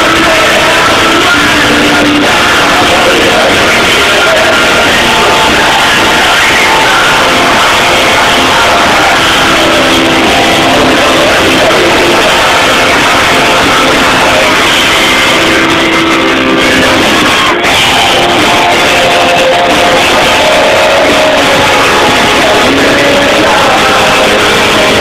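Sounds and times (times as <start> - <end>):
electric guitars: 0.0 - 25.0
rock band playing live: 0.0 - 25.0.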